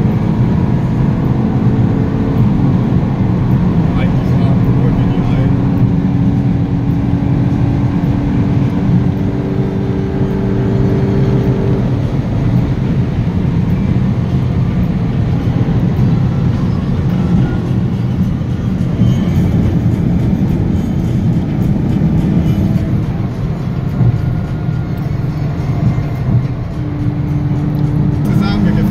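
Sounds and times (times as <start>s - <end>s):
car engine and road noise drone: 0.0s - 28.9s
held hum: 0.0s - 28.9s.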